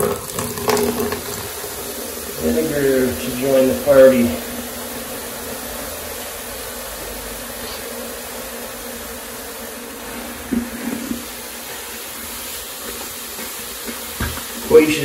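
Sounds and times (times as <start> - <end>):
liquid fizzing with steady hiss: 0.0 - 15.0.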